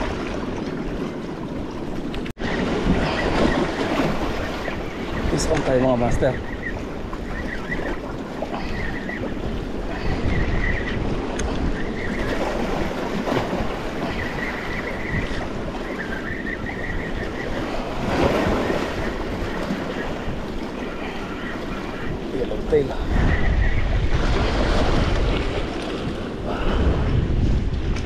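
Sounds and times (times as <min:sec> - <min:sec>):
sea waves washing in: 0:00.0 - 0:28.0
wind buffeting microphone: 0:00.0 - 0:28.0.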